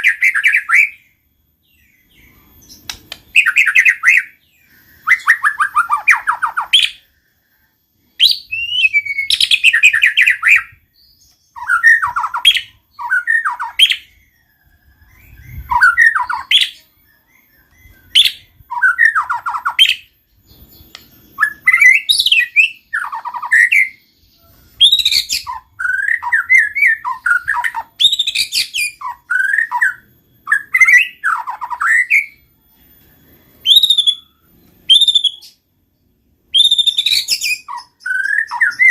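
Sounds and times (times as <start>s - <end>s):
bird singing whistled phrases: 0.0s - 35.6s, 36.5s - 38.9s.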